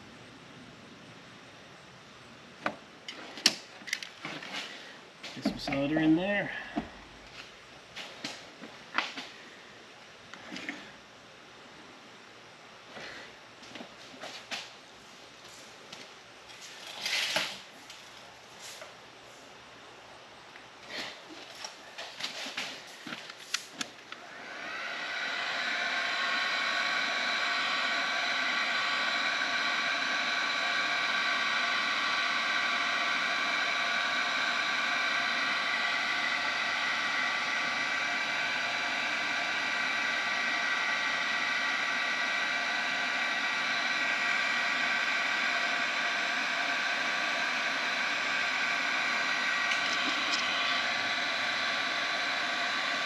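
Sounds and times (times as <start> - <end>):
heat gun fan whine: 2.3 - 19.3, 20.2 - 53.0.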